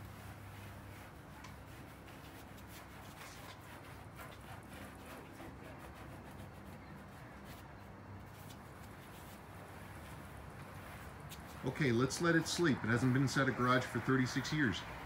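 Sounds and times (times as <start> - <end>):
cloth rubbing car bonnet: 0.0 - 14.8.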